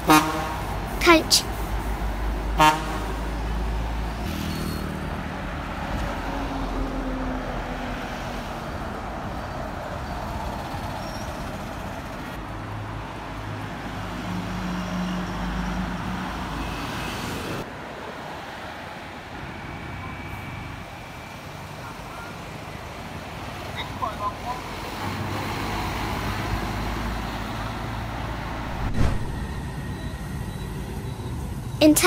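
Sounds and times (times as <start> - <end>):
coaches diesel engines passing: 0.0 - 32.0
road traffic noise: 0.0 - 32.0.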